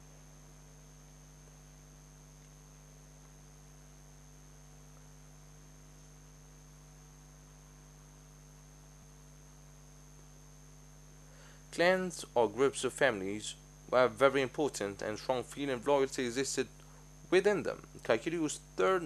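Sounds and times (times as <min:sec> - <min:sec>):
electrical mains hum: 0:00.0 - 0:19.0
thin high-pitched whine: 0:00.0 - 0:19.0.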